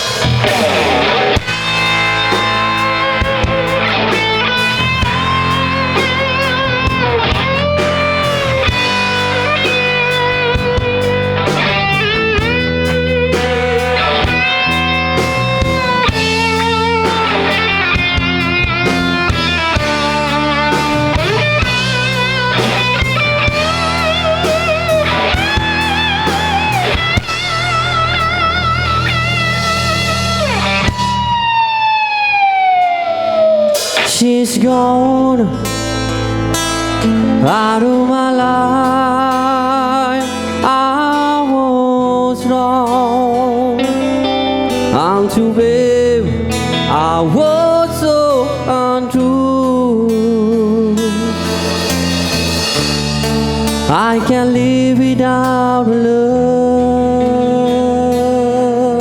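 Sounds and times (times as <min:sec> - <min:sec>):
bass guitar: 0:00.0 - 0:59.0
drums: 0:00.0 - 0:59.0
electric lead guitar bending notes: 0:00.0 - 0:59.0.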